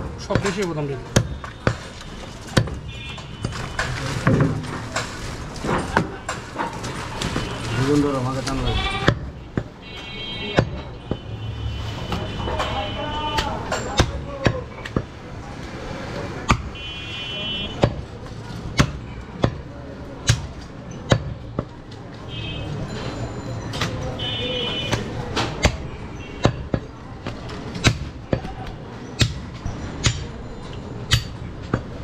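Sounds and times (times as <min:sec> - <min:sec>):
murmur of background voices: 0:00.0 - 0:32.0.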